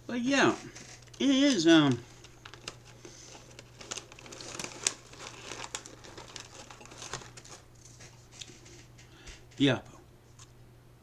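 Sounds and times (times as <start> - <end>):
plastic packaging crinkling: 0.2 - 9.6.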